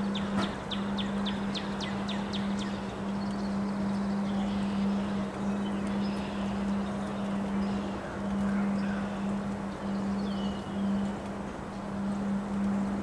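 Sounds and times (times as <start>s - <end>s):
low hum: 0.0s - 13.0s
wind through trees: 0.0s - 13.0s.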